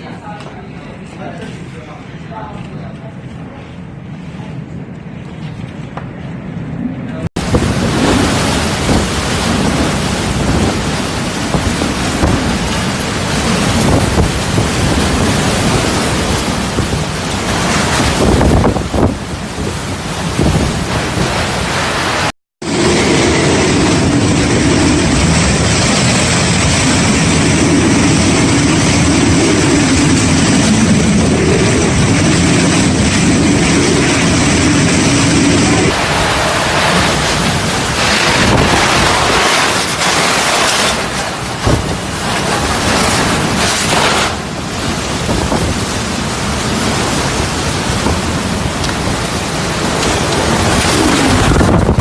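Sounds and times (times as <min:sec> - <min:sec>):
wind blowing across microphone: 0:03.7 - 0:52.0
storm rain: 0:06.8 - 0:52.0
surf: 0:07.4 - 0:52.0.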